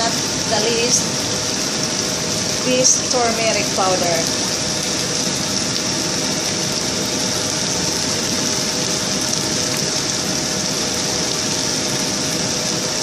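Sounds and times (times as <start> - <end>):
faint steady hum: 0.0 - 13.0
stove hiss: 0.0 - 13.0.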